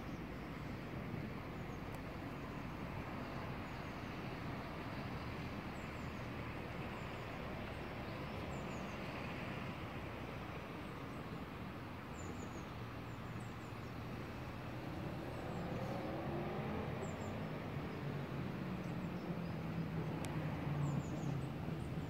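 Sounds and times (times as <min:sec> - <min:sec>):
outdoor background rumble: 0:00.0 - 0:22.0.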